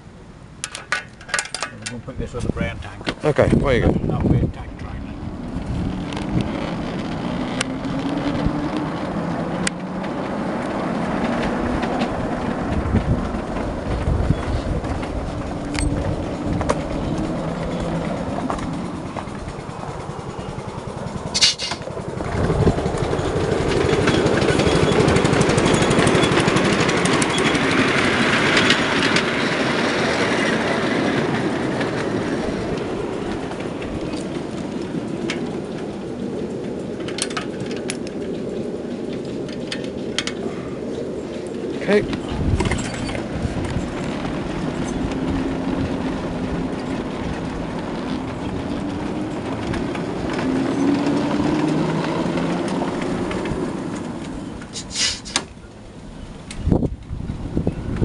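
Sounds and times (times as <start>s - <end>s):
miniature train wheels rumbling on rail: 0.5s - 58.0s.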